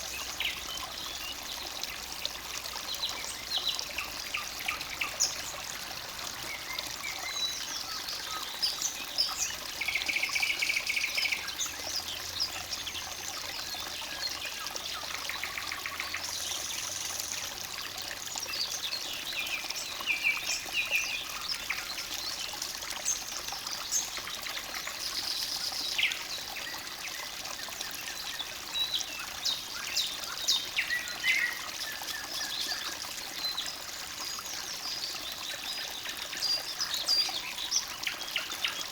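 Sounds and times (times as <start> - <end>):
songbirds singing: 0.0 - 17.5, 18.1 - 38.9
stream trickling: 0.0 - 38.9.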